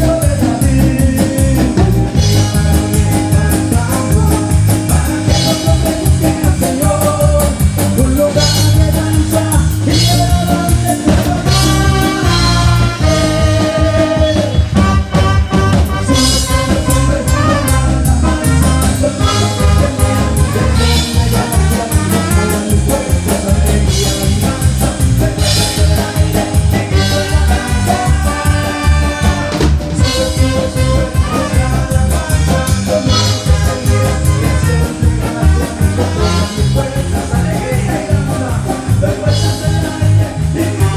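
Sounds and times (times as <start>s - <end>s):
live band playing praise song: 0.0s - 40.9s
steady drum beat: 0.0s - 40.9s.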